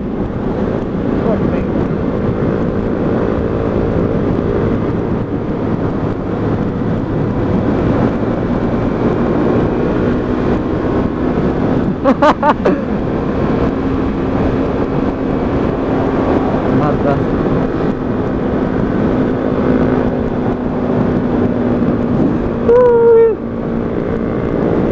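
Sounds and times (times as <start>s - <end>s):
motorcycle engine running: 0.0s - 24.9s
wind rush on microphone: 0.0s - 24.9s.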